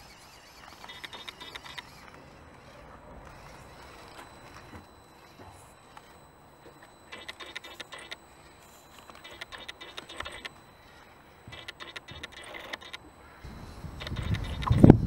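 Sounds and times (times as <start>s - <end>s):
electric motor and gearbox whirring: 0.0s - 15.0s.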